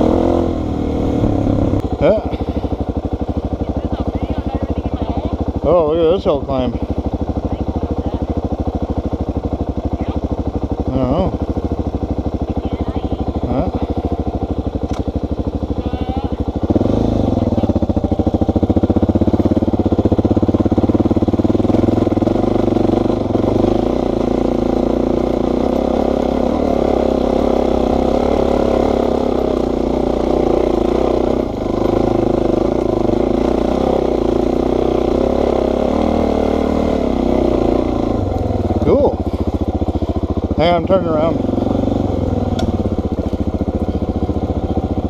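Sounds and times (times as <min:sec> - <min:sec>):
motorcycle engine climbing hill: 0:00.0 - 0:45.0.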